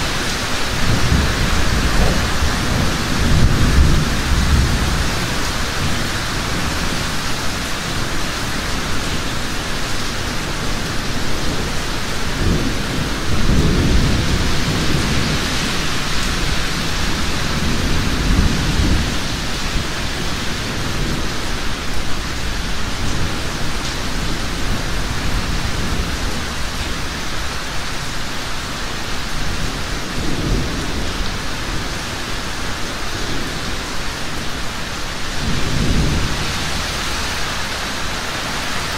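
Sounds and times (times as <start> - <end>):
thunder rumbling: 0.0 - 9.4, 10.5 - 27.6, 29.3 - 38.9
heavy rain: 0.0 - 38.9.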